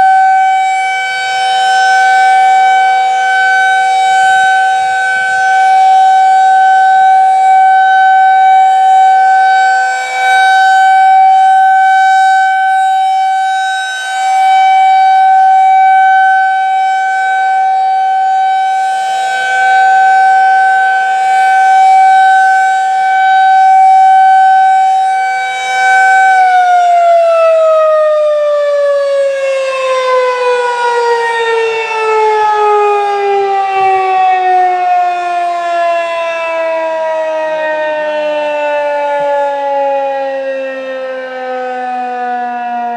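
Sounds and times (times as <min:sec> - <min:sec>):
rotating warning siren: 0:00.0 - 0:42.9.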